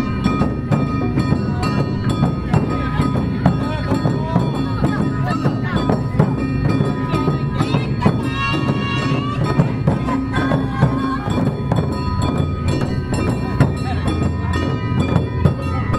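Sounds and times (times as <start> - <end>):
music with percussion strikes: 0.0 - 15.9.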